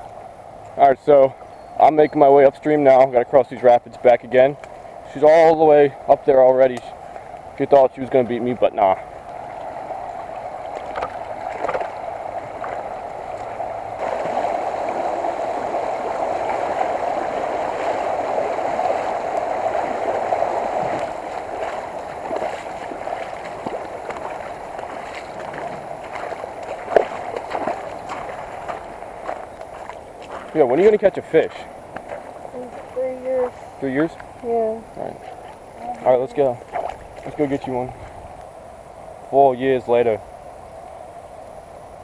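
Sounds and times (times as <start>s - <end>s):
creek water rushing over rapids: 4.6s - 38.3s.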